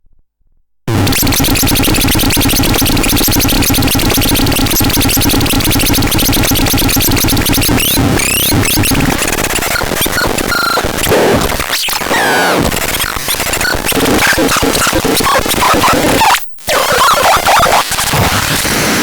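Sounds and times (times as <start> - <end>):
harsh electronic noise music: 0.9 - 18.8.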